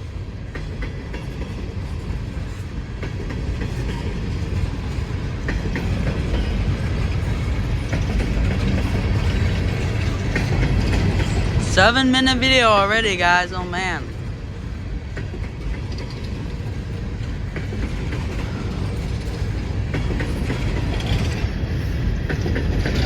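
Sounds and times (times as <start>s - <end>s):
steel wheels clicking over rail joints: 0.0s - 11.7s, 14.1s - 23.0s
freight train rumble: 0.0s - 23.0s.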